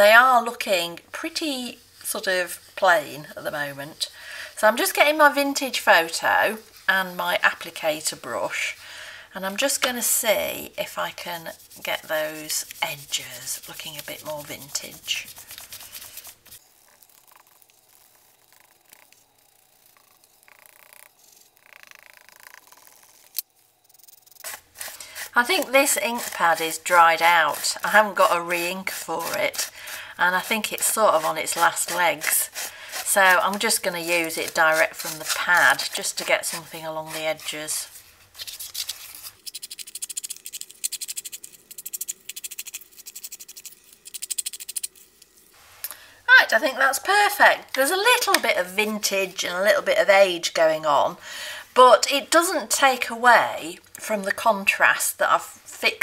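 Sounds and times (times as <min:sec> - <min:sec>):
foam brush rubbing on paper: 0:00.0 - 0:08.8, 0:09.4 - 0:50.7.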